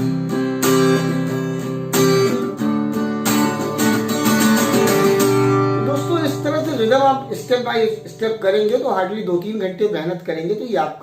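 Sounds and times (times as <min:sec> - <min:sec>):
acoustic guitar strumming: 0:00.0 - 0:09.9.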